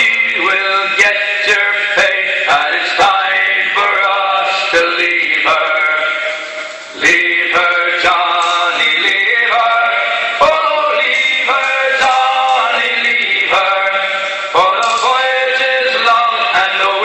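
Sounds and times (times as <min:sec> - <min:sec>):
men singing in unison: 0:00.0 - 0:17.0.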